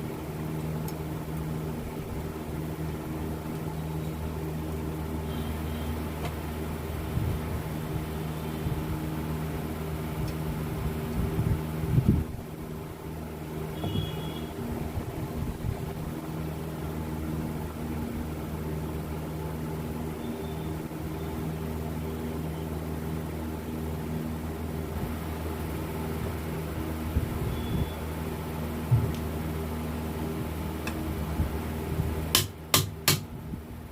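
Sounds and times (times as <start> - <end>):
machine hum: 0.0 - 33.9.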